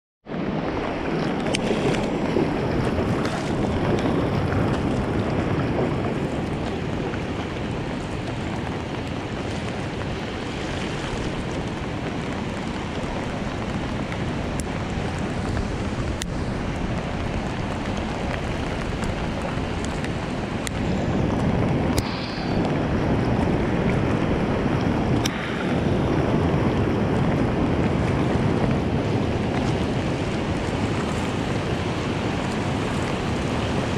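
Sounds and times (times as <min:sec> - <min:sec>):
flowing river water: 0:00.2 - 0:33.9
wind buffeting microphone: 0:00.2 - 0:33.9.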